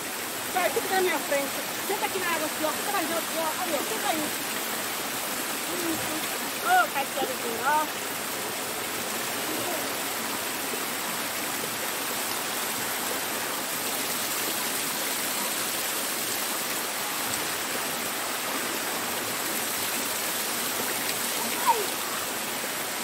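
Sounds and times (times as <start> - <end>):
waterfall cascading over rocks: 0.0 - 23.0.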